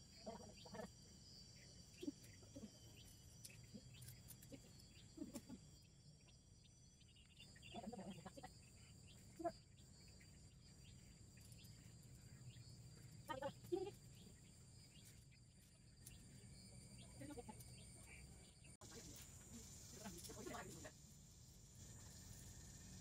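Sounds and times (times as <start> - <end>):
steady high-pitched hum: 0.0 - 23.0.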